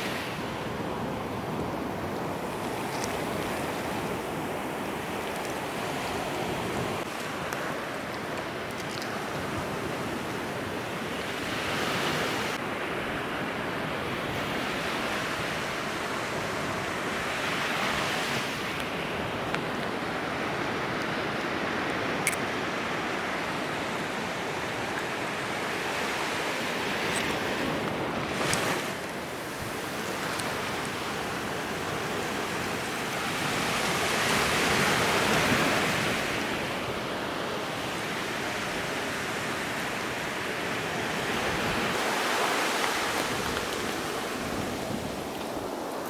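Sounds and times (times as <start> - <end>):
ocean waves breaking on beach: 0.0 - 46.0.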